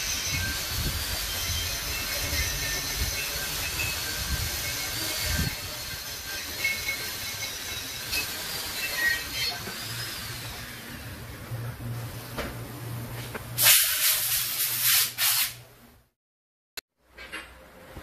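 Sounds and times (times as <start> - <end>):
workshop background hiss: 0.0 - 16.0.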